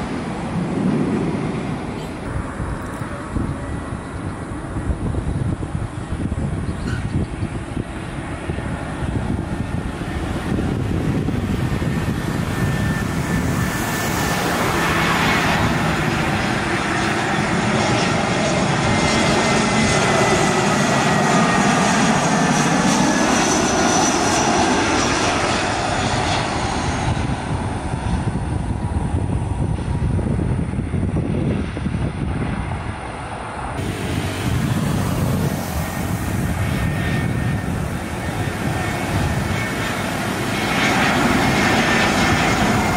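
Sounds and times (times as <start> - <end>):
jet airliner engines passing: 0.0 - 42.9.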